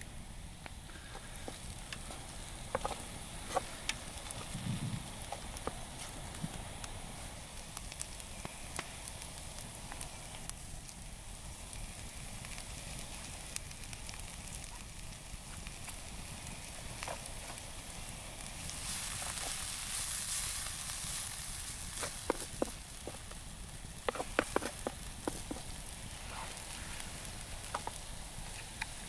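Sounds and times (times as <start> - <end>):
campfire crackling and popping: 0.0 - 29.0
food sizzling in a frying pan: 0.0 - 29.0.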